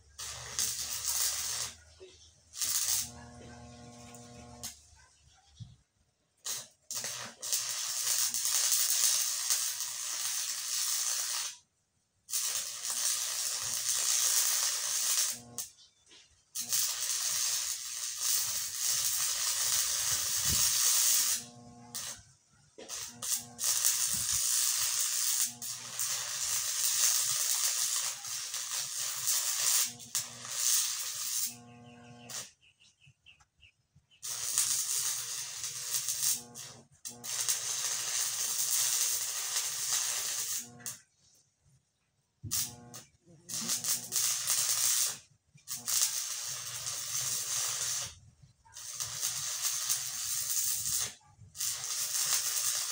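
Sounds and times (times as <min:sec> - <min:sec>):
arc welding crackling hiss: 0:00.0 - 0:04.8, 0:06.4 - 0:11.6, 0:12.3 - 0:32.6, 0:34.1 - 0:41.2, 0:42.4 - 0:52.9.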